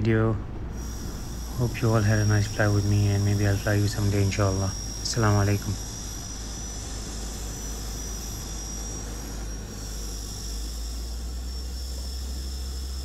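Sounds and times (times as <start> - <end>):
high turbine whine: 0.0 - 13.0
turboprop engines low drone: 0.0 - 13.0.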